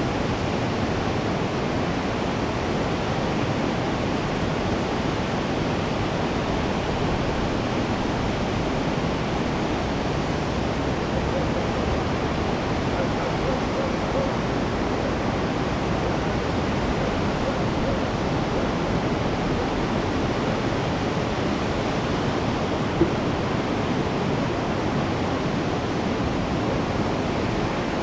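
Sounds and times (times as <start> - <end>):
water rushing over a weir: 0.0 - 28.0.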